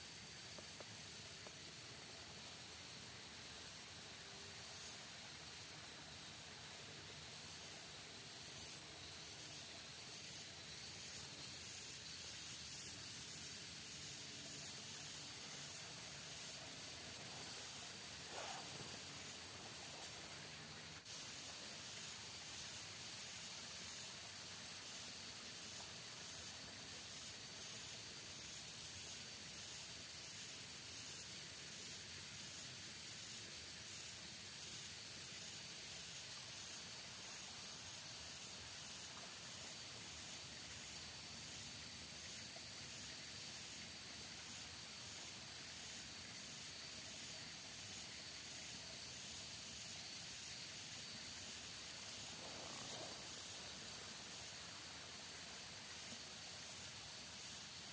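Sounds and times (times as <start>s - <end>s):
pulsing insect chorus: 0.0s - 57.9s
steady hiss: 0.0s - 57.9s.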